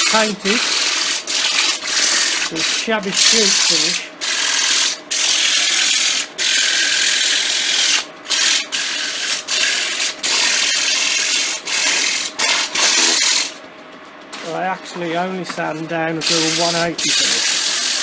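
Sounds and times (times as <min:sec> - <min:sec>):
sandpaper on spinning wood: 0:00.0 - 0:13.6, 0:15.6 - 0:18.0.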